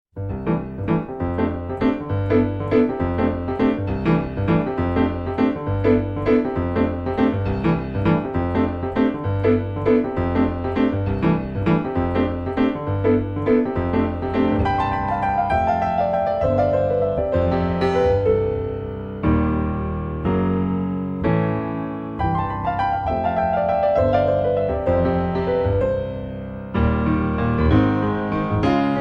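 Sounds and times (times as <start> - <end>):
bass line: 0.1 - 29.0
piano repeated notes: 0.1 - 29.0.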